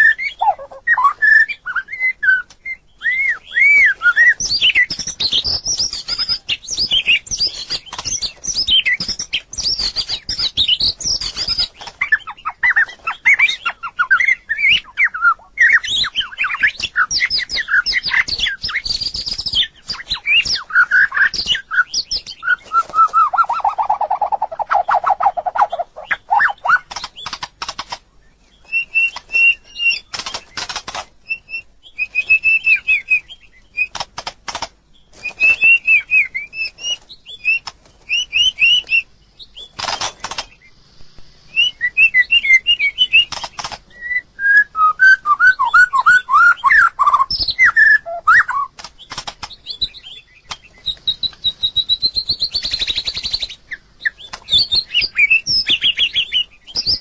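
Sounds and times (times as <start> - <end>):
bird singing whistled phrases: 0.0 - 27.3, 28.6 - 30.2, 31.3 - 33.9, 35.2 - 39.7, 41.4 - 48.8, 49.6 - 57.0.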